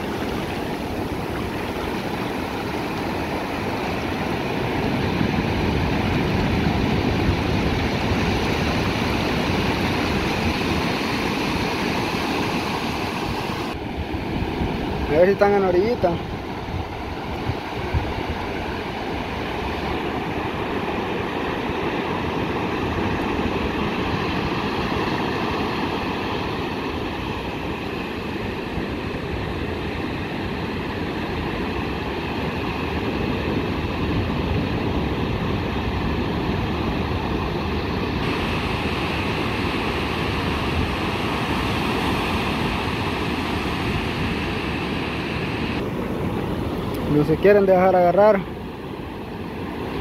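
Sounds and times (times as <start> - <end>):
ocean surf breaking: 0.0 - 50.0.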